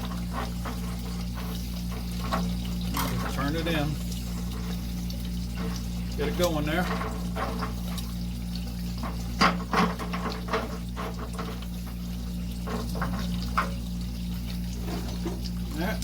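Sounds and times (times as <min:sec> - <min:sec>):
water running through a funnel: 0:00.0 - 0:16.0.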